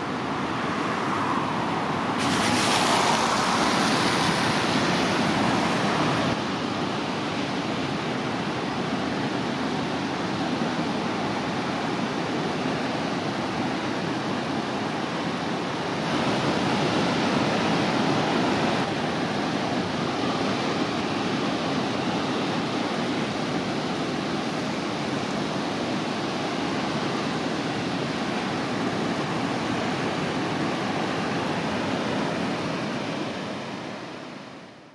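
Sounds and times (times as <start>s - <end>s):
ocean surf: 0.0s - 34.9s.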